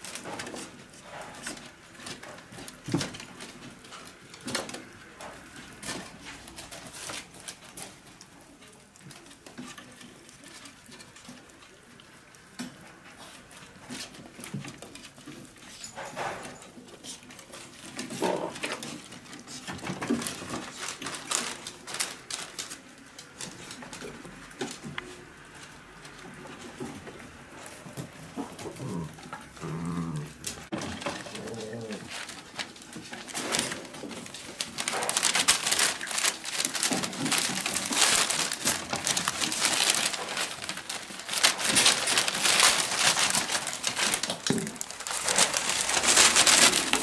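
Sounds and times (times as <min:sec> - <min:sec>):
puppies chewing with crunches: 0:00.0 - 0:47.0.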